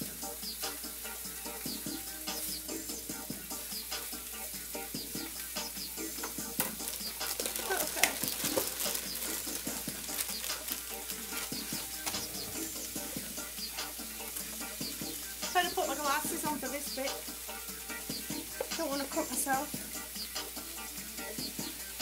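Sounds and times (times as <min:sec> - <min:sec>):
faint background music: 0:00.0 - 0:22.0
food sizzling in oil: 0:00.0 - 0:22.0.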